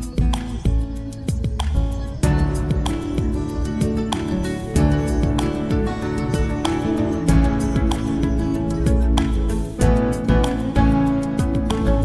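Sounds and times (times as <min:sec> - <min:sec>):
soft guitar music: 0:00.0 - 0:12.0.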